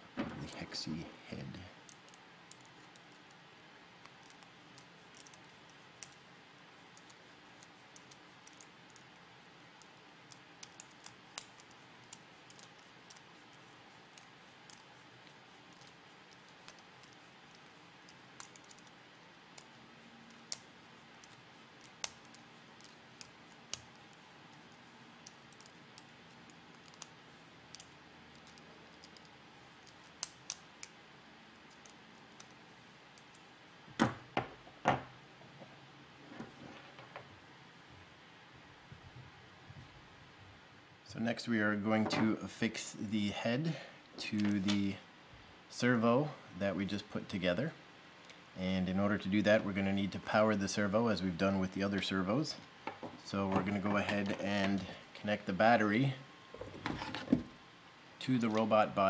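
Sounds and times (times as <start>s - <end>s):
room hiss: 0.0s - 59.0s.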